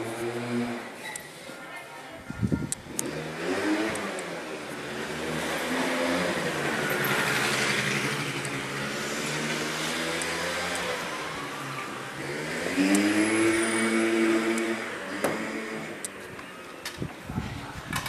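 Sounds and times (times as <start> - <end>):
vehicle engine revving: 0.0 - 1.0, 2.7 - 16.4.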